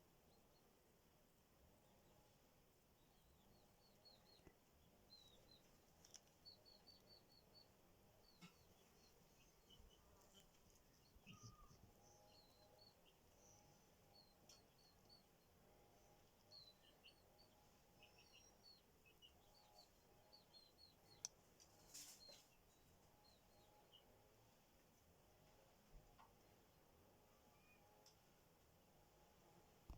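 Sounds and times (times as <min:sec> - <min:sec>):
small birds chirping: 0:00.0 - 0:00.9, 0:01.6 - 0:28.4
low background hiss: 0:00.0 - 0:29.9.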